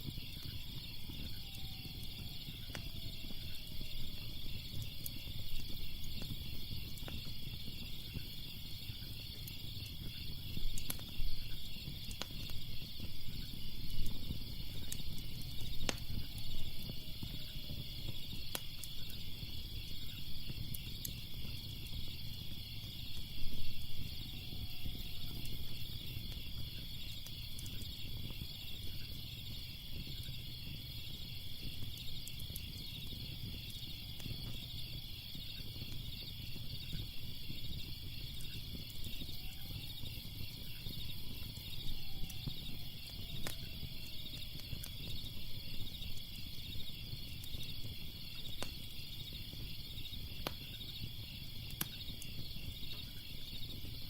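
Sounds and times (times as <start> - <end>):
crickets chirping: 0.0 - 54.0
wood fire crackling: 0.0 - 54.0.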